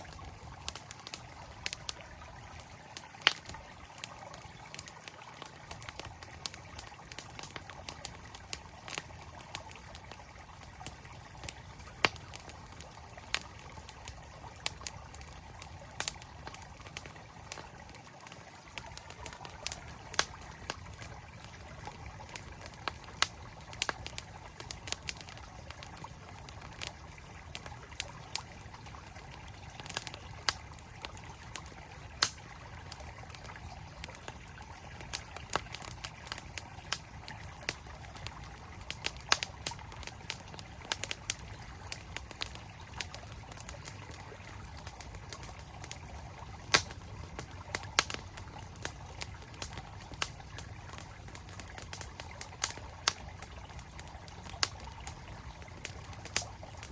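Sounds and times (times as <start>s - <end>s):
campfire crackling and popping: 0.0s - 56.9s
stream flowing: 0.0s - 56.9s.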